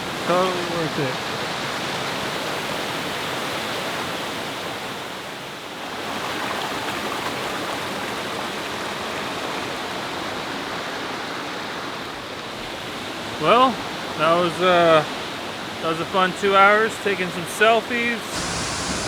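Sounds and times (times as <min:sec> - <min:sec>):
waterfall and river rushing: 0:00.0 - 0:19.0.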